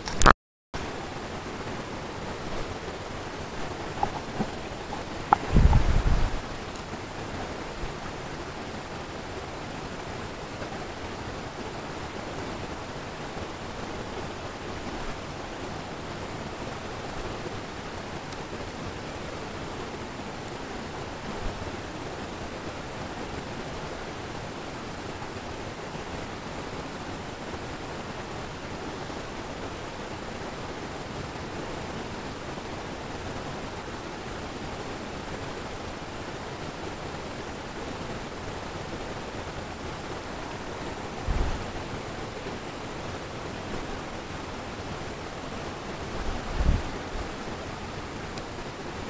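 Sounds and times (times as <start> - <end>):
stream rushing over rapids: 0.0 - 49.0.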